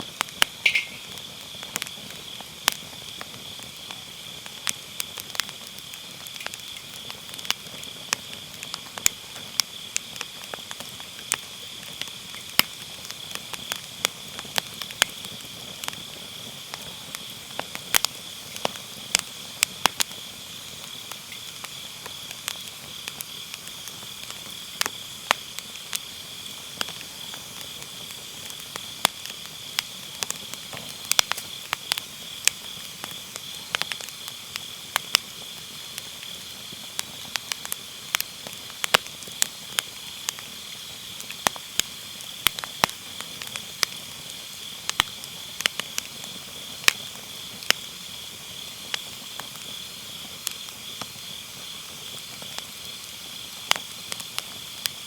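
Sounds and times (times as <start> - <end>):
firewood crackling and popping: 0.0 - 55.0
grass insects chirring: 0.0 - 55.0.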